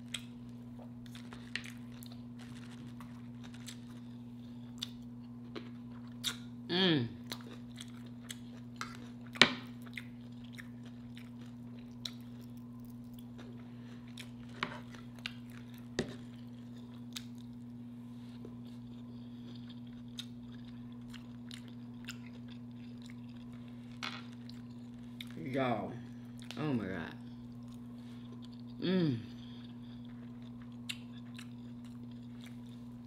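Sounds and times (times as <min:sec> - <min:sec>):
chewing with crisp crunches: 0:00.0 - 0:33.0
steady low hum: 0:00.0 - 0:33.0.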